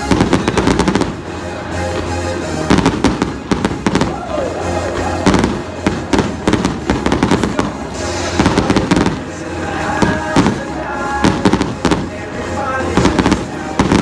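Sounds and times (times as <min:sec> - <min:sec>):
fireworks bangs and crackles: 0:00.0 - 0:14.0
loud show music: 0:00.0 - 0:14.0.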